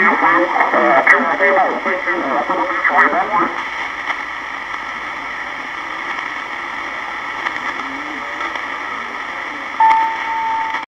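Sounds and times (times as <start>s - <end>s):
faint wavering radio signal: 0.0s - 10.9s
radio receiver hiss: 0.0s - 10.9s.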